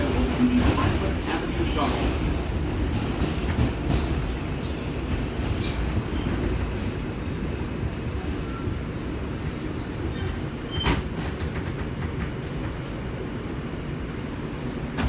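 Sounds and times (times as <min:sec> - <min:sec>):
subway train rumble: 0:00.0 - 0:15.0.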